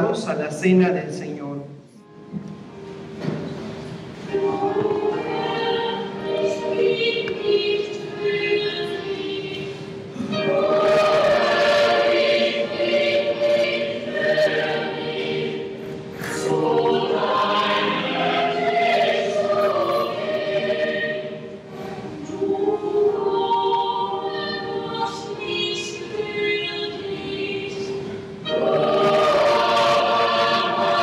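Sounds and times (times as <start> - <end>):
boys' choir singing: 4.3 - 31.0.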